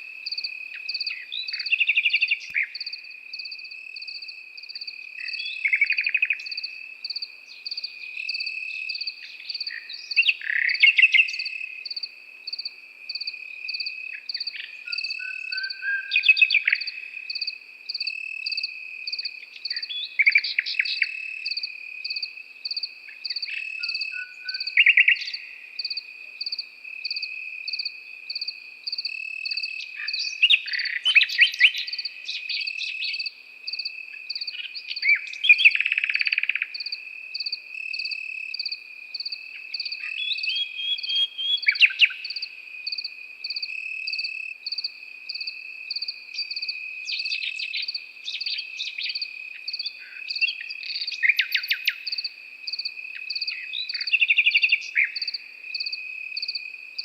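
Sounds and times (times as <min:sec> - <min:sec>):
cricket chirping: 0:00.0 - 0:57.0
nightingale singing: 0:00.0 - 0:57.0.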